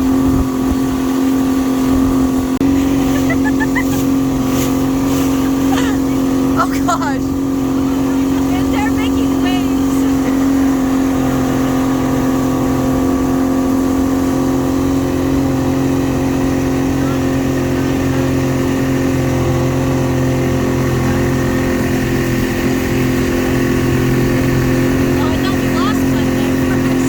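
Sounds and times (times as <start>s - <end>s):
engine humming steadily: 0.0s - 27.0s.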